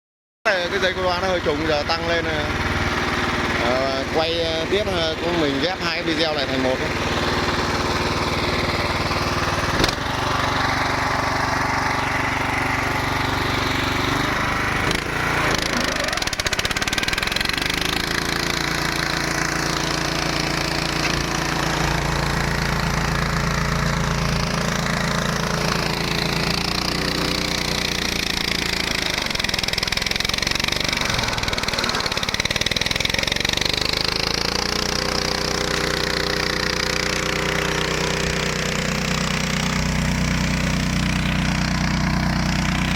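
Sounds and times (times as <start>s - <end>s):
flail mower engine running: 0.5s - 42.9s.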